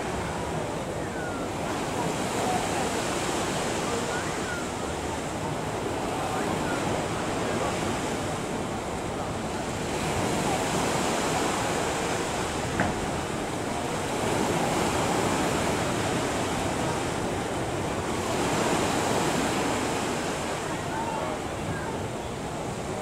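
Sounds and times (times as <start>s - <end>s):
sea waves washing: 0.0s - 23.0s.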